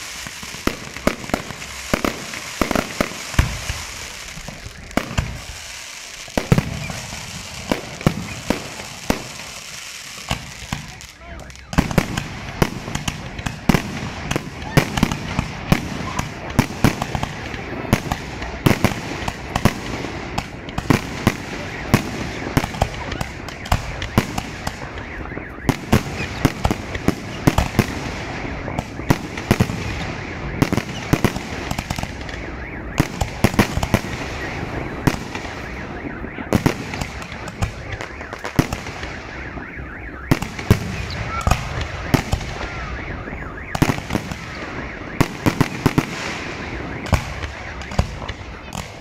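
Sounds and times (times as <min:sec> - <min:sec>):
fireworks bangs: 0:00.0 - 0:49.0
fireworks crackling: 0:00.0 - 0:49.0.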